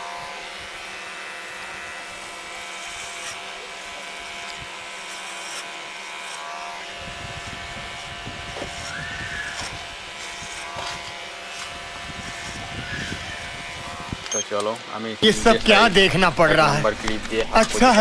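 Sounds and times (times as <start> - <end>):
hair clipper buzzing: 0.0 - 18.0.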